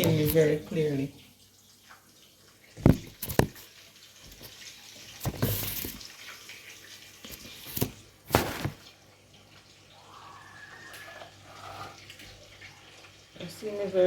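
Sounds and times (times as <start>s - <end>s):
water splashing in sink: 0.0s - 14.0s.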